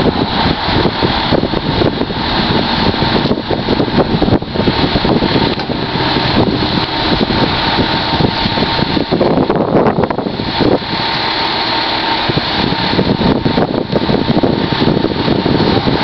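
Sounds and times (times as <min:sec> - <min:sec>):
road and traffic noise: 0:00.0 - 0:16.0
vehicle engine running: 0:00.0 - 0:16.0.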